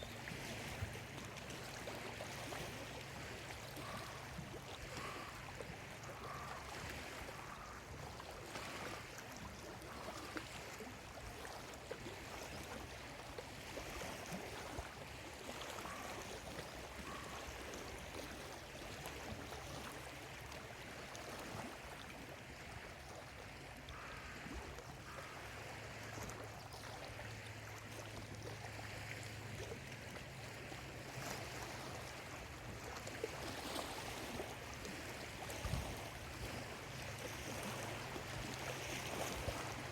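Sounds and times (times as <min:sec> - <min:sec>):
lake waves lapping at shore: 0:00.0 - 0:39.9.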